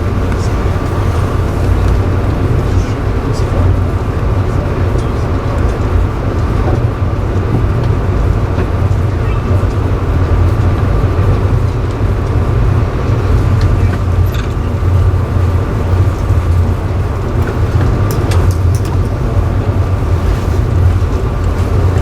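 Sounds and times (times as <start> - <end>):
train rumble from inside: 0.0 - 22.0.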